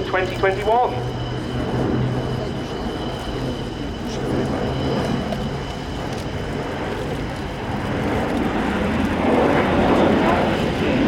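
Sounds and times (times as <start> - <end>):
turboprop aircraft drone: 0.0 - 11.0.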